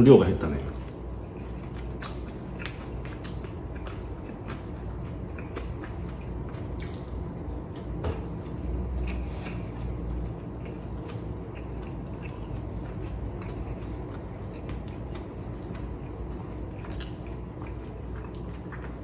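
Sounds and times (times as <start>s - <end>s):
chewing with wet mouth sounds: 0.7s - 19.0s.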